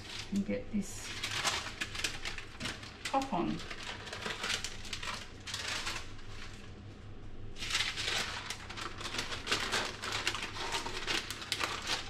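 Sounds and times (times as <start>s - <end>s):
baking paper crinkling: 0.0s - 6.9s, 7.5s - 12.0s.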